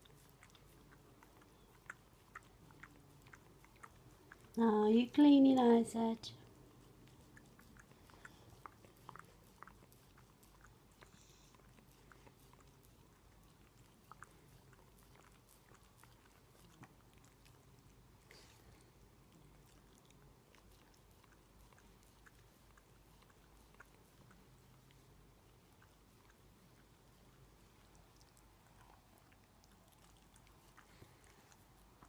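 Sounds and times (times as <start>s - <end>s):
dog tongue licking fur: 0.0s - 32.0s.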